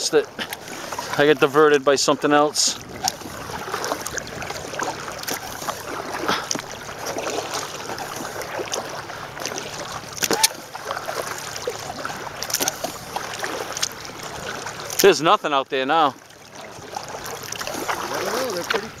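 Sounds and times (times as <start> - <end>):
sharp water splashes: 0.0 - 19.0
water lapping around kayak: 0.0 - 19.0.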